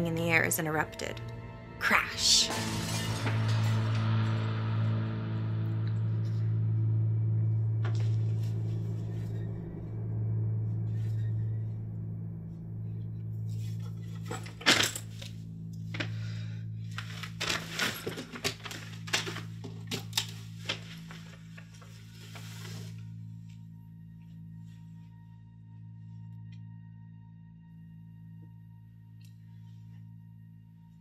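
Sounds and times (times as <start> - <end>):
low ominous drone: 0.0 - 31.0.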